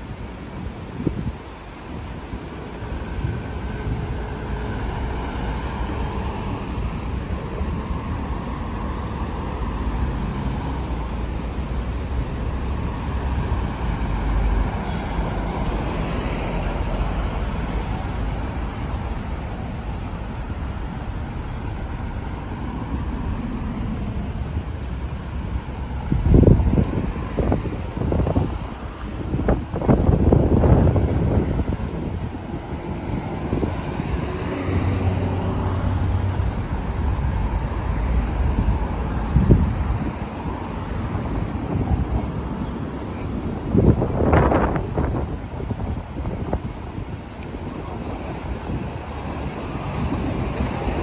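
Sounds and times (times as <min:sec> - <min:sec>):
road traffic driving past: 0:00.0 - 0:51.0
wind buffeting microphone: 0:00.0 - 0:51.0.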